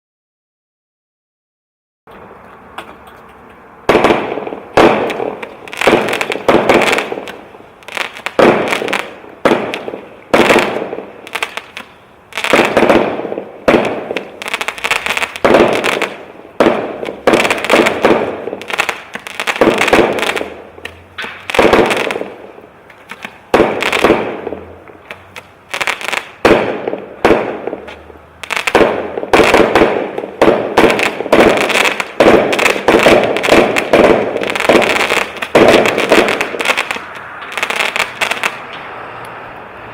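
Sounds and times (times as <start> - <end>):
firework bangs with crackling: 3.8 - 38.9.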